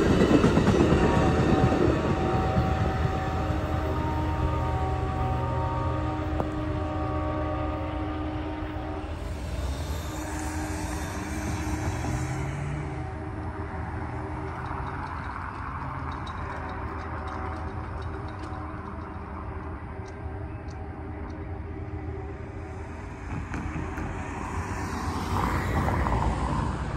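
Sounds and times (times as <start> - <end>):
car crossing railroad crossing: 0.0 - 26.9
low rumble of vehicles: 0.0 - 26.9.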